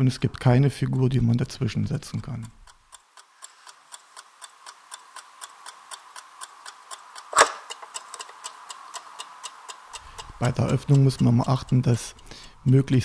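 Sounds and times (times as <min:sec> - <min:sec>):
mechanical clock ticking: 0:00.8 - 0:13.0.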